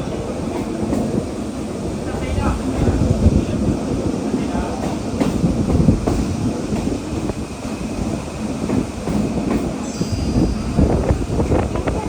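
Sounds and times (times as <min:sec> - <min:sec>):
train rumbling along track: 0:00.0 - 0:12.0.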